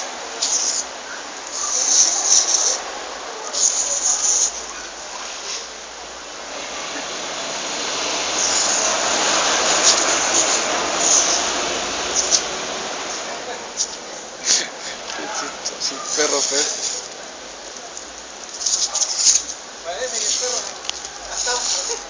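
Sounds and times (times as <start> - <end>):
fire hose spraying water: 0.0 - 22.0.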